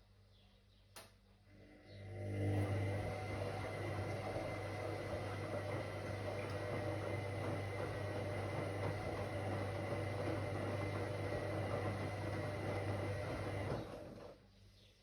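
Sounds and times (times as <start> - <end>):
washing machine humming: 1.5 - 14.5.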